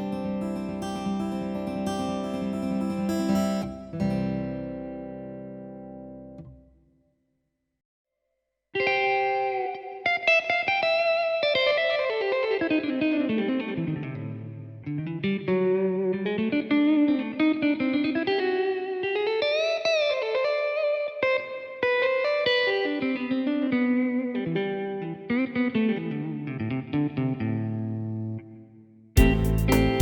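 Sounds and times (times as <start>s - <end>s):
keyboard electric guitar melody: 0.0s - 6.6s, 8.8s - 28.5s, 29.2s - 30.0s.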